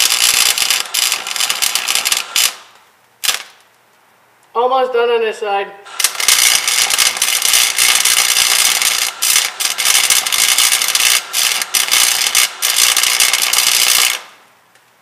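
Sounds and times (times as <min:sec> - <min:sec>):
electric welding arc crackling: 0:00.0 - 0:04.6, 0:05.9 - 0:15.0.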